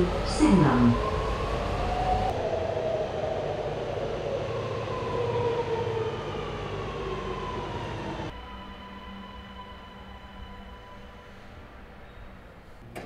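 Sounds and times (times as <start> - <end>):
electric train motors whining: 0.0 - 13.0
steady train hum: 0.0 - 13.0
train rumble and hiss: 0.0 - 13.0.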